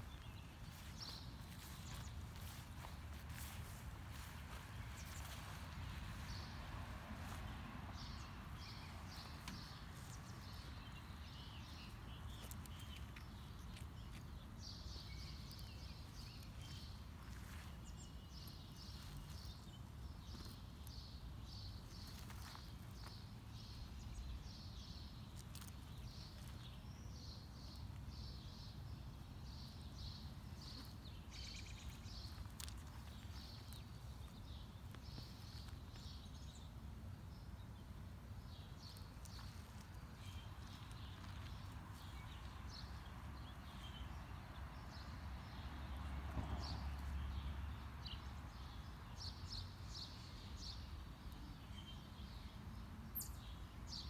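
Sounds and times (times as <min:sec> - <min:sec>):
birds chirping: 0:00.0 - 0:06.6, 0:07.2 - 0:54.0.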